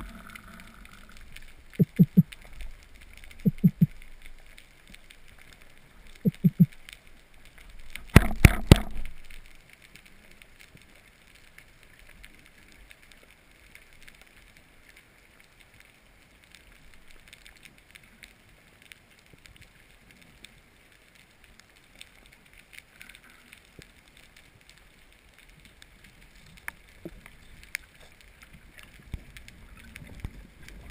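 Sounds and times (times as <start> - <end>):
underwater crackling ticks: 0.0 - 30.9.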